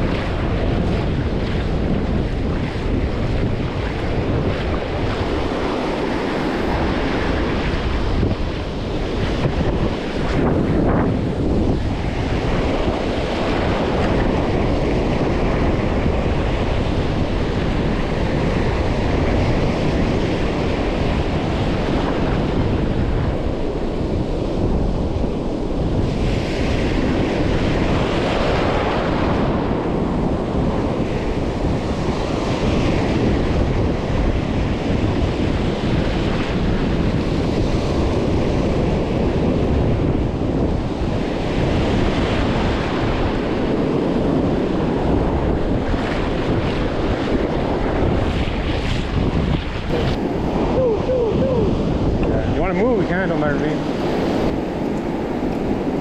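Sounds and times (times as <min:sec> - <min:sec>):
surf breaking on a beach: 0:00.0 - 0:56.0
wind buffeting microphone: 0:00.0 - 0:56.0.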